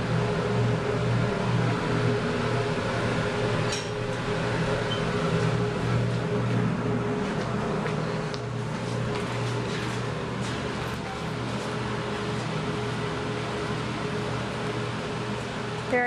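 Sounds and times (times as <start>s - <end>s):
elevator electrical hum: 0.0s - 16.0s.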